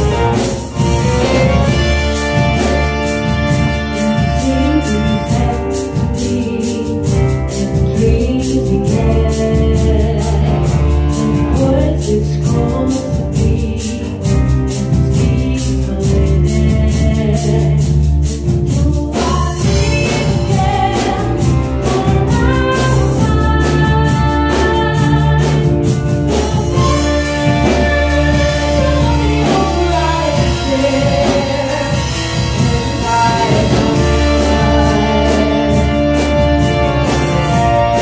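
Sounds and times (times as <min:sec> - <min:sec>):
woman singing into a microphone: 0:03.8 - 0:36.7.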